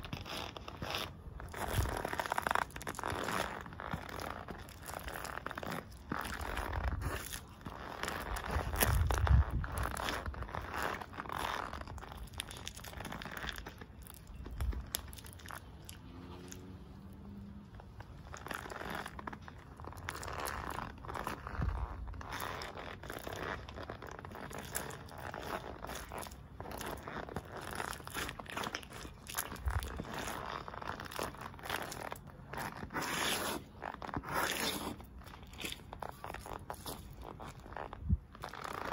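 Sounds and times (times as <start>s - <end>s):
shoes squishing bananas: 0.0s - 38.9s.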